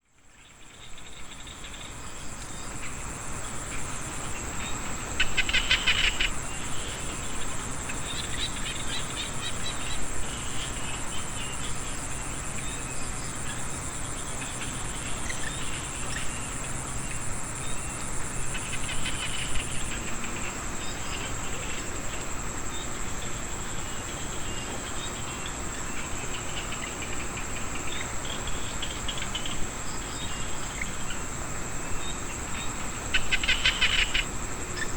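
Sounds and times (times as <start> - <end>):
insect trill: 0.0 - 34.9
frogs calling: 0.1 - 34.9.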